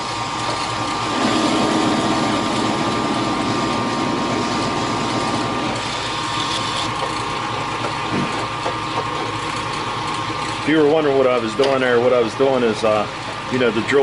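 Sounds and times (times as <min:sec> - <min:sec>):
drill bit cutting metal: 0:00.0 - 0:11.7
lathe motor hum: 0:00.0 - 0:14.0.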